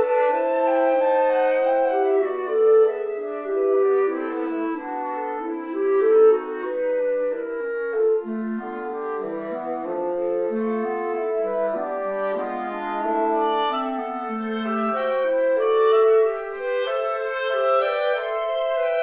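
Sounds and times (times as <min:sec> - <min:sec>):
slow wind ensemble music: 0:00.0 - 0:19.0.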